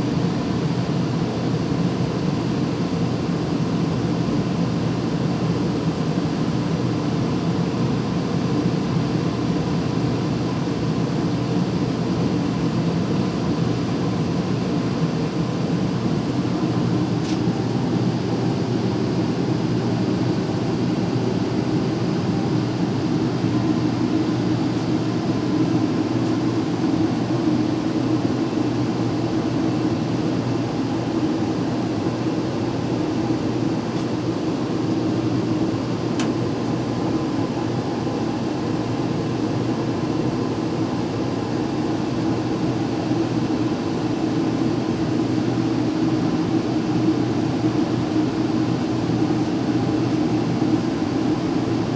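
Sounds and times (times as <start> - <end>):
furnace humming and blowing air: 0.0 - 51.9.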